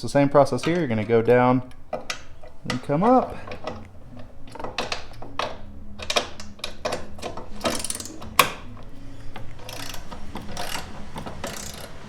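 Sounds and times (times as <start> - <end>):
socket ratchet clicking: 0.5 - 12.0.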